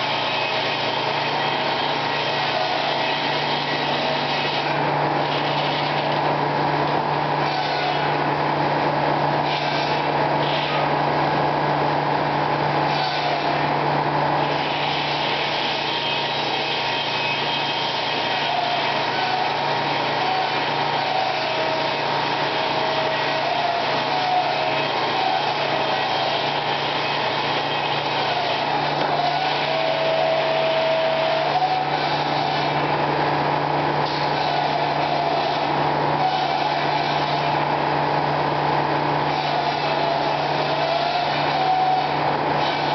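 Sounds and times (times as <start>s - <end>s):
saw blade whine: 0.0s - 11.5s, 12.6s - 42.9s
sawmill machinery hum: 0.0s - 42.9s.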